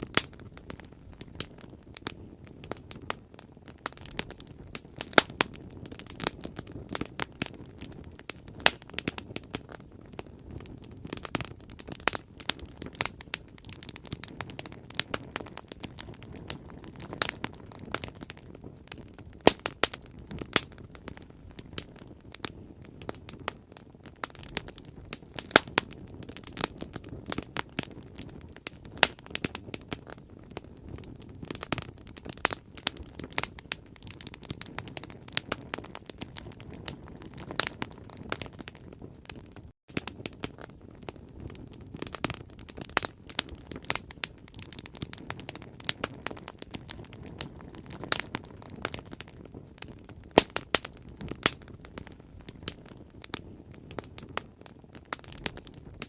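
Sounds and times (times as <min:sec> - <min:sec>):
burning wood crackling and popping: 0:00.0 - 0:56.0
low rumble of flame: 0:00.0 - 0:56.0.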